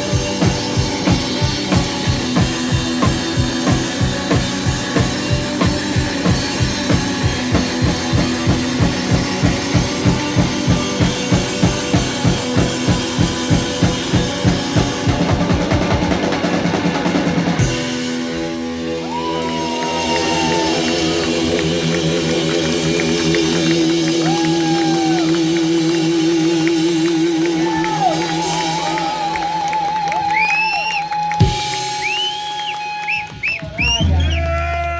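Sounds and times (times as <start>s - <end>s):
drum kit pounding: 0.0s - 30.4s, 31.1s - 34.9s
live rock band playing: 0.0s - 34.9s.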